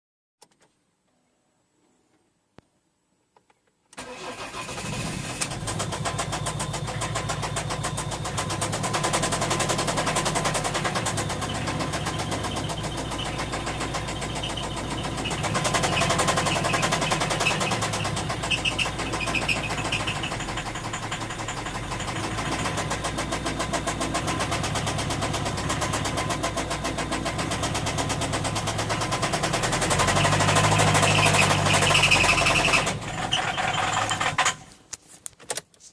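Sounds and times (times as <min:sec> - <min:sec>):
diesel engine running: 0:04.0 - 0:34.6
engine knocking: 0:05.5 - 0:34.5.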